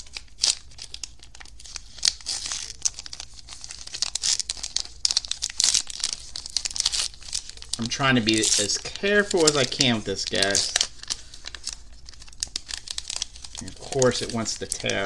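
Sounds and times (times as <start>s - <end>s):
wrapper crinkling and tearing: 0.0s - 15.0s.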